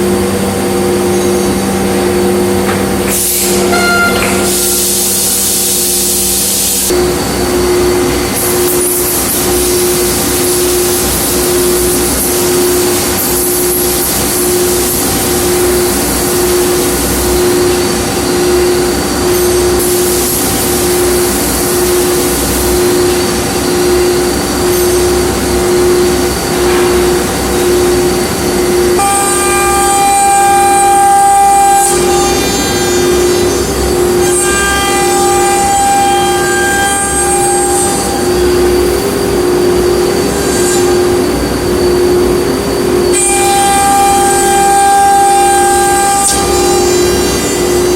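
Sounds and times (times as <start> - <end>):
high-pitched machine whine: 0.0 - 47.9
machine pulsing hum and hiss: 0.0 - 47.9.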